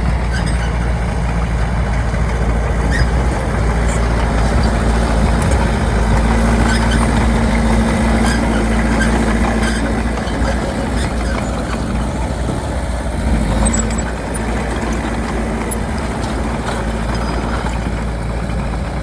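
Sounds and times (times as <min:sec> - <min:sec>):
bulldozer diesel engine rumbling: 0:00.0 - 0:19.0.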